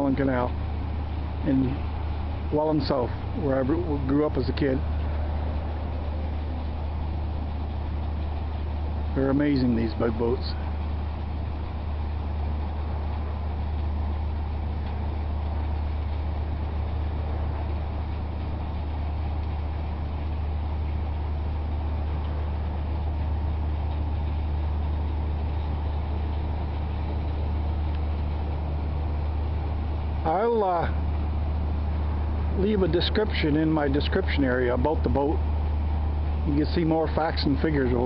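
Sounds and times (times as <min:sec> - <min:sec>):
faint machinery noise: 0:00.0 - 0:38.0
ship diesel engine drone: 0:00.0 - 0:38.0.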